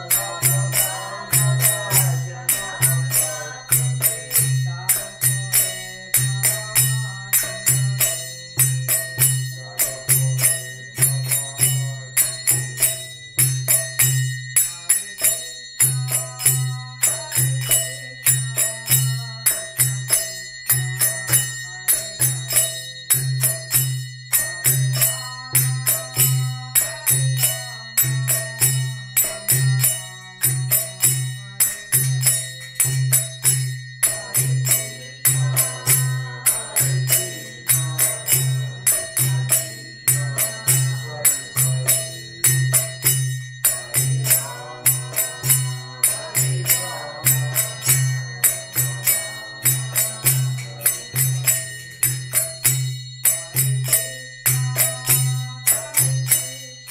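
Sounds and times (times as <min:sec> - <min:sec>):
hand cymbals struck in rhythm: 0:00.0 - 0:56.9.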